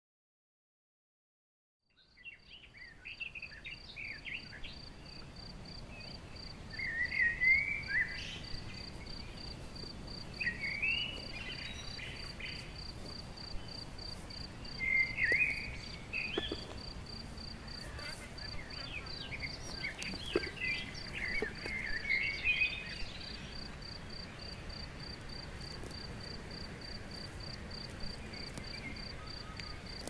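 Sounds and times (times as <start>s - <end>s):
bird singing: 1.9s - 25.2s, 25.9s - 30.0s
insect chirping: 2.0s - 30.0s.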